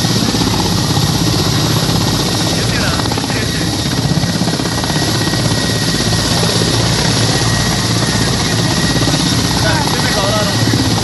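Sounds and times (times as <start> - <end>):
helicopter rotor beat: 0.0 - 11.0
turbine whine: 0.0 - 11.0.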